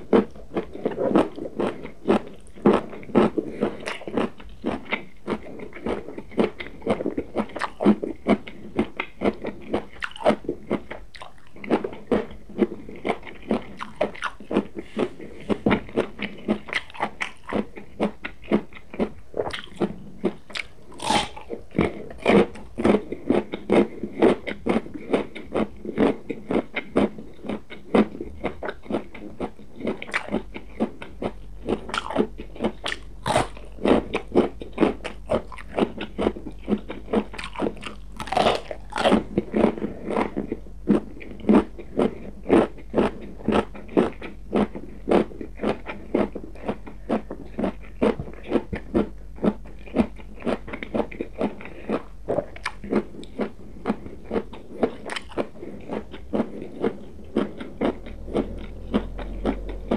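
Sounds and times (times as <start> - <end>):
chewing crunchy vegetables: 0.0 - 59.9.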